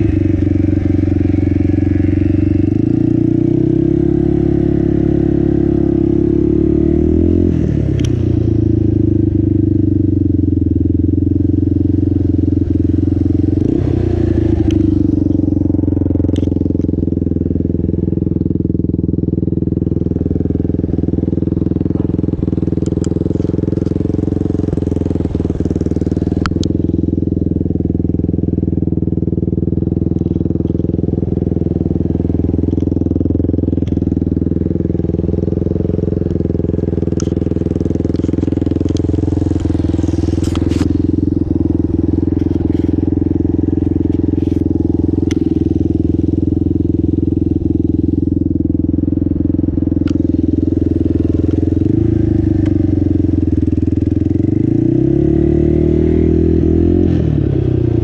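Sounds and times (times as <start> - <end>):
atv engine running and revving: 0.0 - 58.0.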